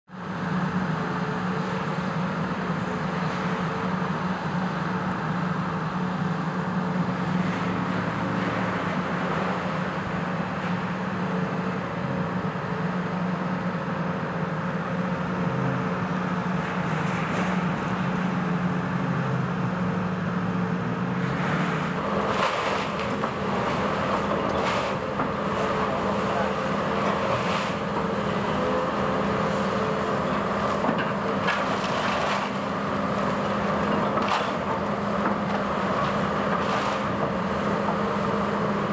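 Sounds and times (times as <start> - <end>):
heavy diesel engine running: 0.1 - 38.9.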